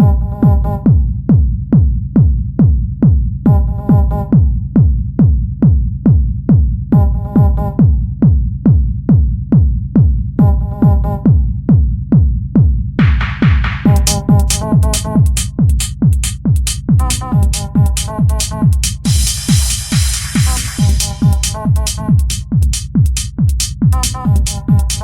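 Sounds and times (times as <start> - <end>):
drum machine kick: 0.0 - 25.0.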